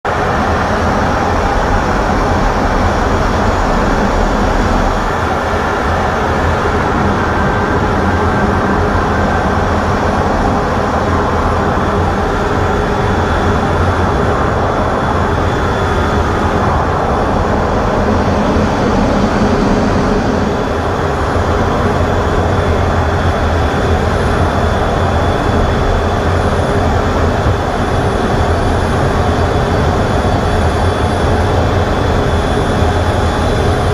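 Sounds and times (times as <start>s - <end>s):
jet aircraft engine noise: 0.1s - 33.9s
low hum: 0.1s - 33.9s.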